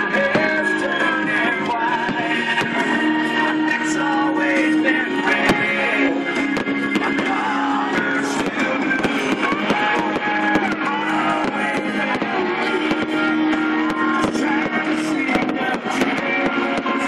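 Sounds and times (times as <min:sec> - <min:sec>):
firework bangs: 0:00.0 - 0:17.0
strummed guitar music: 0:00.0 - 0:17.0.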